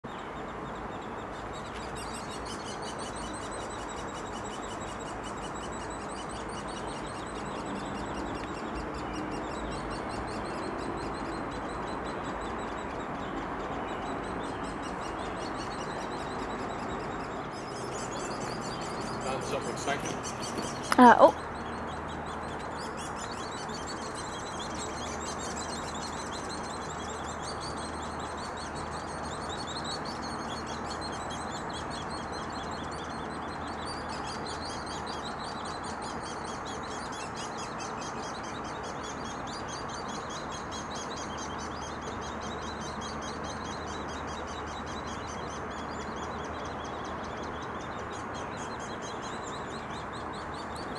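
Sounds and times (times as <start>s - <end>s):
nestlings begging chatter: 0.4s - 50.9s.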